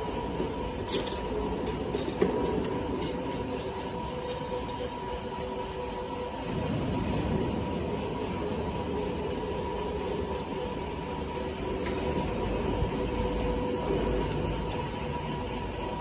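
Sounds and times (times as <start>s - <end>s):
industrial machinery humming: 0.0s - 16.0s.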